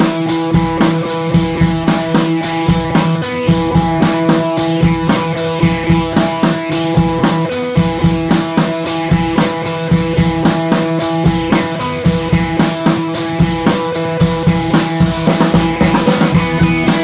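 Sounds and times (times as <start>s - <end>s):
background music with drum beat: 0.0s - 17.0s.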